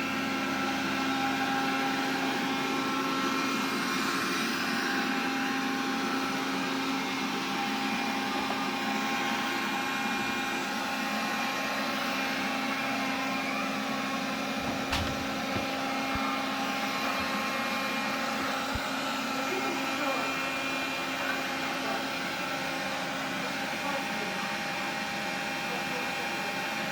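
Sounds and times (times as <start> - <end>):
vacuum cleaner whine: 0.0 - 26.9.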